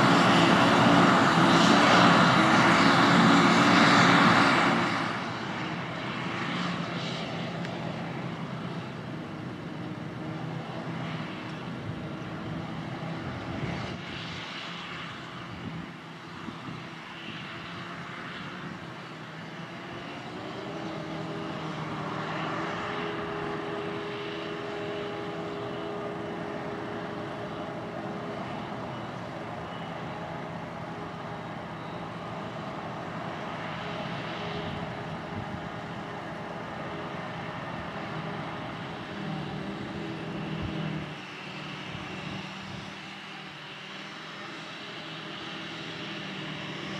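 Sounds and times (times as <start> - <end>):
forage harvester droning: 0.0 - 46.9.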